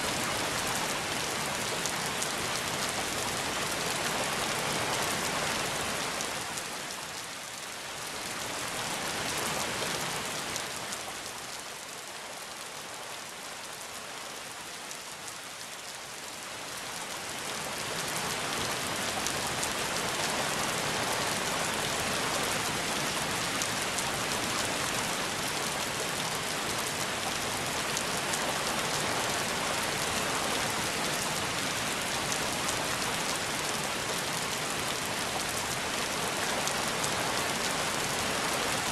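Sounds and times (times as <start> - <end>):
rain hissing and pattering: 0.0 - 38.9.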